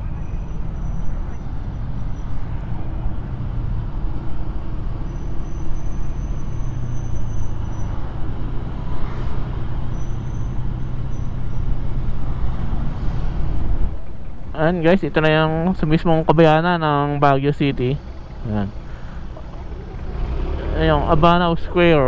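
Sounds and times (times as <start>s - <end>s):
other vehicles: 0.0s - 22.0s
road and wind noise: 0.0s - 22.0s
scooter engine humming: 0.0s - 22.0s.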